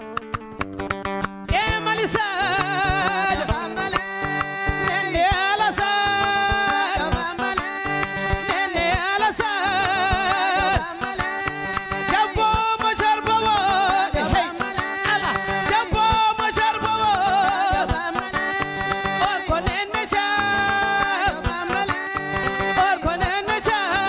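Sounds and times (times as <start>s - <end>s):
acoustic guitar: 0.0s - 24.0s
woman singing with vibrato: 1.5s - 24.0s.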